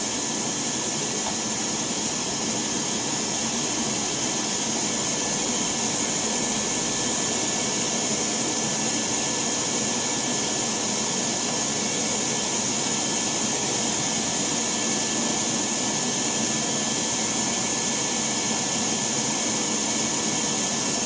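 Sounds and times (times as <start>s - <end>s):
shop vacuum running: 0.0s - 21.0s.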